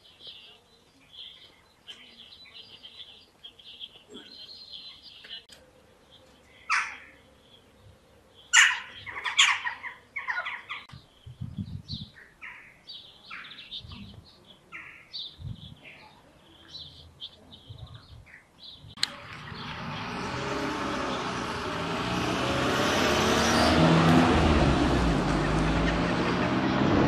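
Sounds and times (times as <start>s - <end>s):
small birds chirping: 0.0s - 23.8s, 24.9s - 27.0s.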